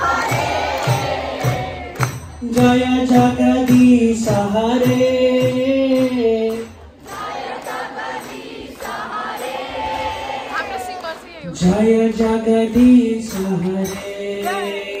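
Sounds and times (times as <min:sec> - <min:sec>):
drum beating: 0:00.0 - 0:15.0
group devotional chanting: 0:00.0 - 0:15.0
people clapping: 0:00.0 - 0:15.0.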